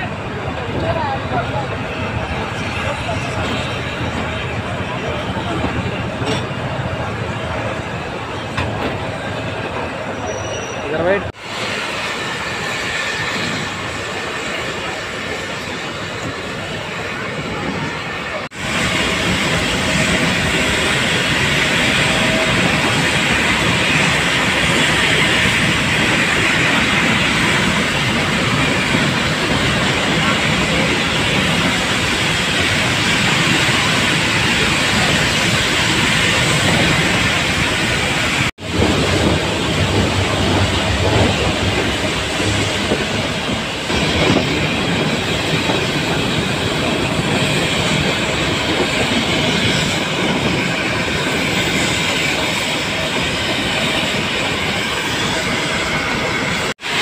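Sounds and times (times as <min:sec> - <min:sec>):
train wheels and coaches rattling: 0:00.0 - 0:57.0.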